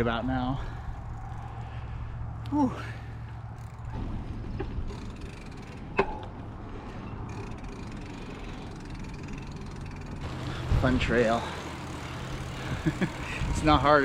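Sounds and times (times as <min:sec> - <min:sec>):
bicycle rolling on concrete: 0:00.0 - 0:14.0.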